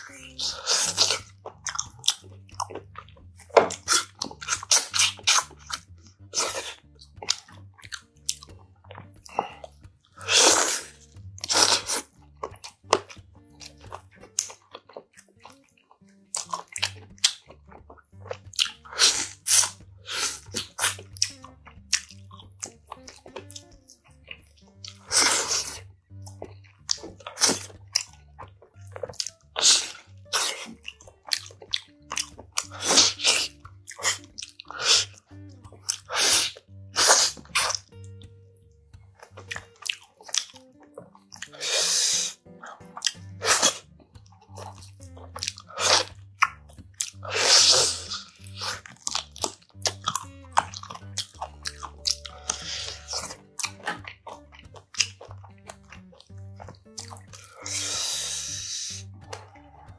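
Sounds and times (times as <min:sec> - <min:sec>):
wet chewing and biting: 0:00.0 - 0:59.9.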